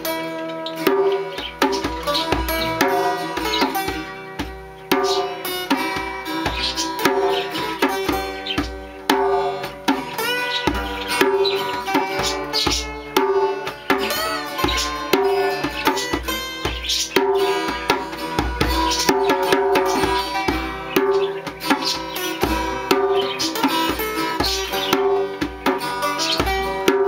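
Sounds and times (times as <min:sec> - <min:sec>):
acoustic guitars strummed: 0:00.0 - 0:27.0
hand drum: 0:00.0 - 0:27.0.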